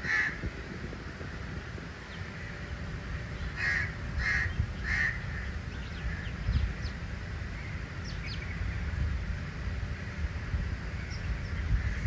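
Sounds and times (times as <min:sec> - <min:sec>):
loud bird calls: 0:01.9 - 0:12.0.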